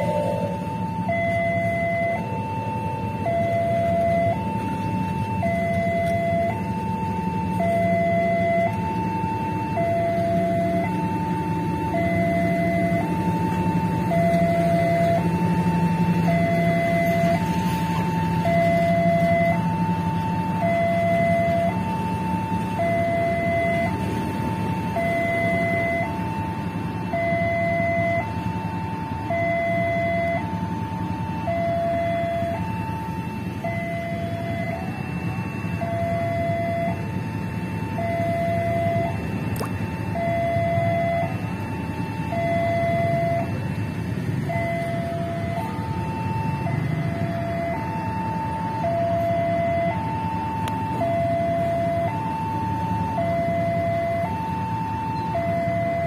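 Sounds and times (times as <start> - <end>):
level crossing two-tone alarm: 0.0 - 56.0
train rumble: 0.0 - 56.0.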